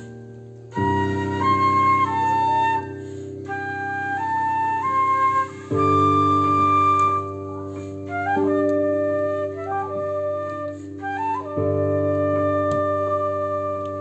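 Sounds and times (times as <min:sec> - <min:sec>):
flute playing: 0:00.0 - 0:14.0
piano chords: 0:00.0 - 0:14.0.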